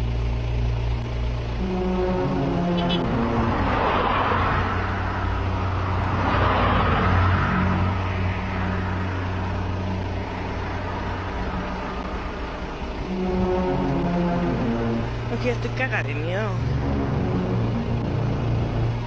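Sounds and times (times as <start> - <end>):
engine hum: 0.0 - 19.0
passing traffic: 0.0 - 19.0.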